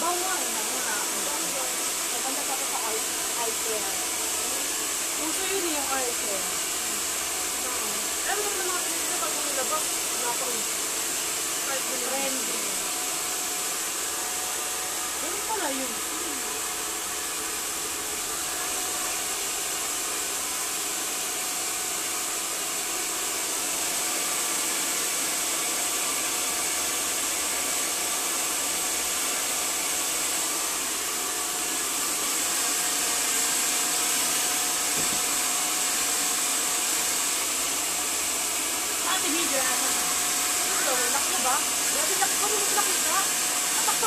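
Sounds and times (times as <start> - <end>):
hair dryer running: 0.0 - 44.0.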